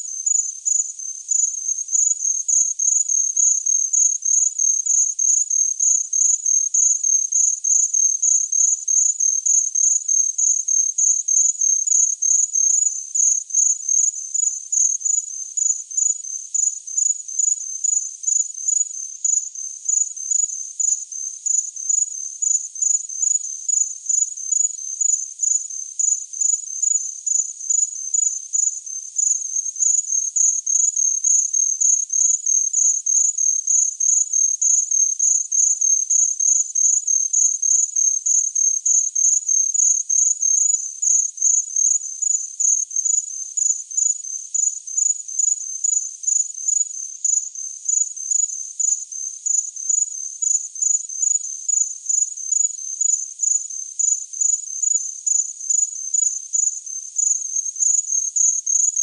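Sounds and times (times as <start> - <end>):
cricket chirping: 0.0 - 59.0.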